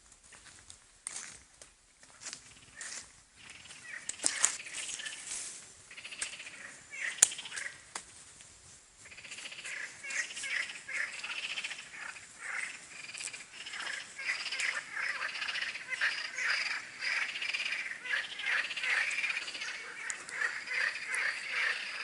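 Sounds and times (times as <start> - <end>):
frogs calling: 2.5 - 5.3, 5.9 - 7.8, 9.0 - 22.0.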